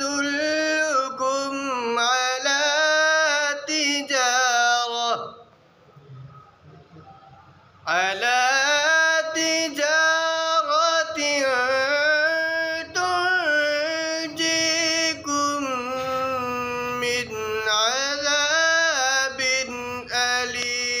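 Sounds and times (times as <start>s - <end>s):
man chanting melodically: 0.0s - 5.5s, 7.8s - 21.0s.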